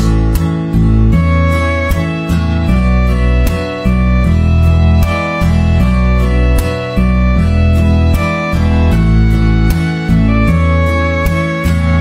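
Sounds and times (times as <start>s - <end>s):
bass line: 0.0s - 12.0s
strummed guitars: 0.0s - 12.0s
violins: 0.7s - 12.0s.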